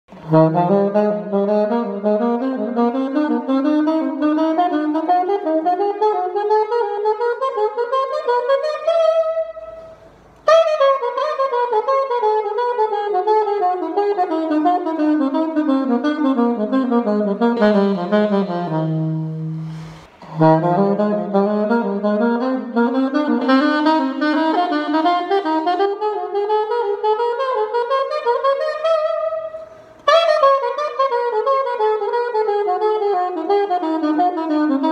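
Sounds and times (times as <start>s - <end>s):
alto saxophone playing scales: 0.1s - 34.9s.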